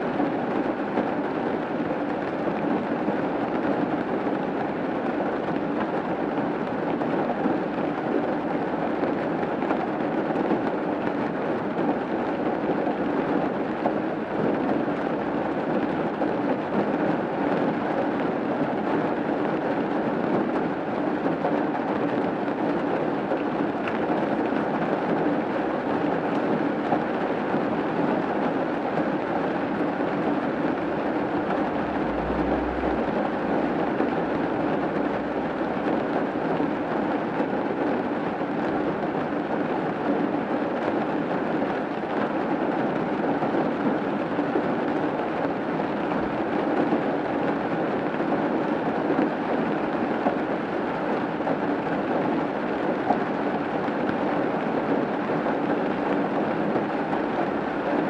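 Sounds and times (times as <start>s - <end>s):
rain falling on a roof: 0.0s - 58.0s.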